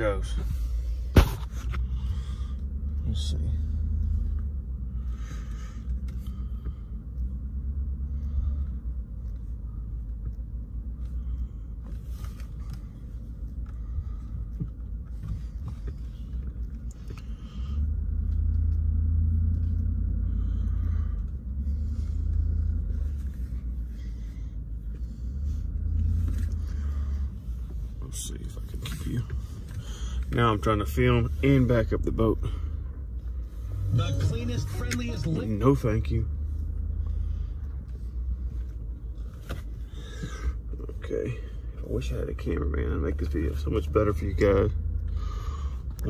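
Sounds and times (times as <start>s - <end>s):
truck engine rumble in cab: 0.0s - 46.0s.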